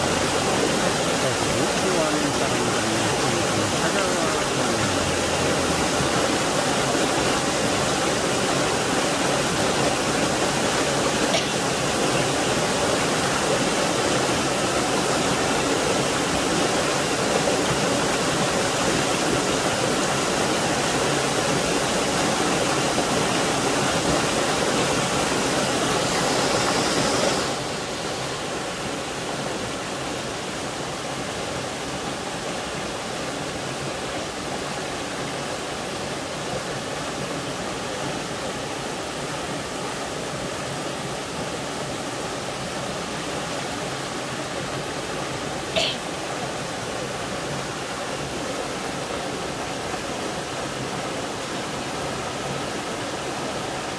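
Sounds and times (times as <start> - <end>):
waterfall rushing splash: 0.0 - 53.9.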